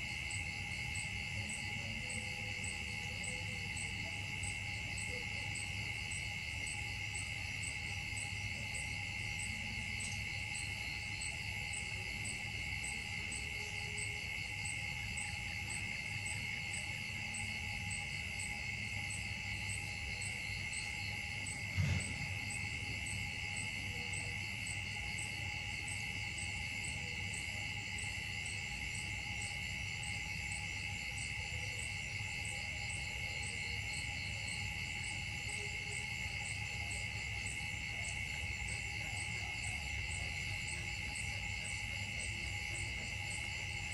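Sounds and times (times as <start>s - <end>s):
insect chorus drone: 0.0s - 43.9s.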